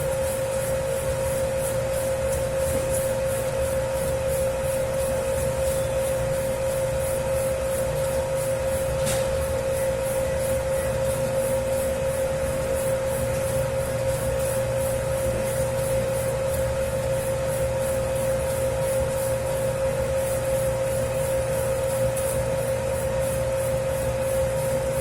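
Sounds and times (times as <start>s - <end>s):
dough kneader motor hum: 0.0s - 25.0s.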